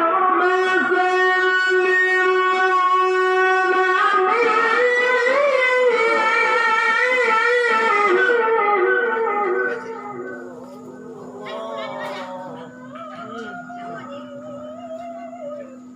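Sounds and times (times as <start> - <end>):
man reciting in melismatic chant: 0.1 - 8.3, 9.6 - 15.9.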